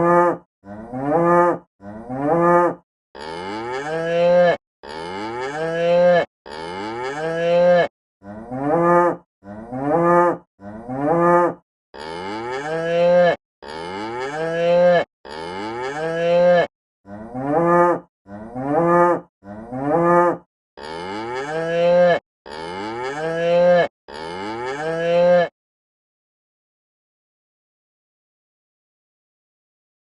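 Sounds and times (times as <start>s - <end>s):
cow mooing: 0.0s - 25.5s.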